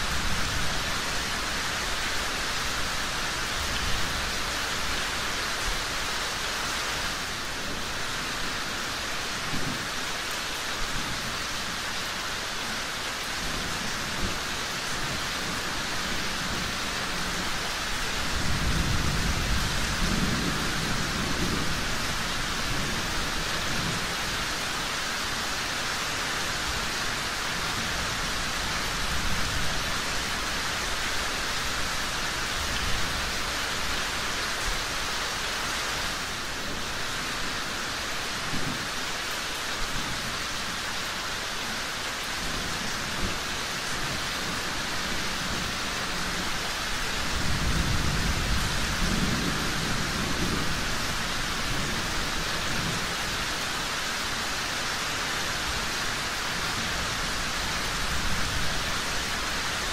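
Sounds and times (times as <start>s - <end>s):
steady rain hissing: 0.0s - 59.9s.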